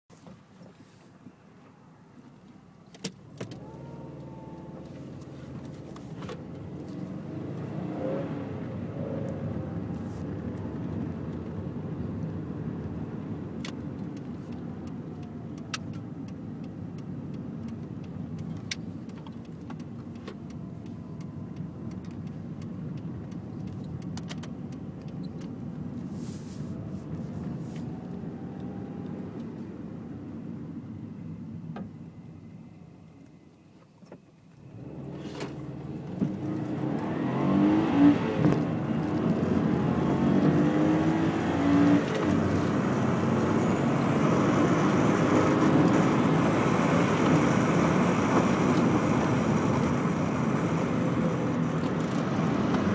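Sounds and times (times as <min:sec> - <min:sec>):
car engine with road noise: 0:00.1 - 0:52.9.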